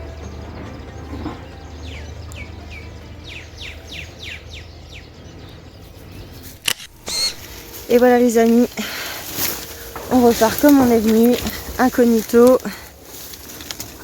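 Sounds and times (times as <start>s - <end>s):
bird calling down-slurred notes: 0.0s - 14.0s
steady low rumble: 0.0s - 14.0s.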